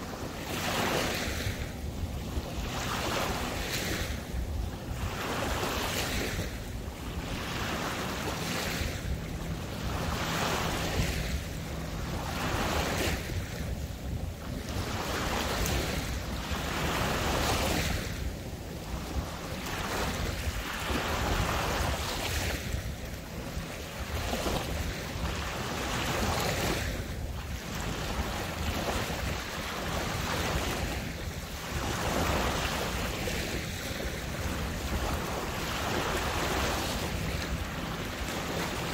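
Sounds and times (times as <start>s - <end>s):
water lapping in small waves: 0.0s - 38.9s
wind rumbling on microphone: 0.0s - 38.9s.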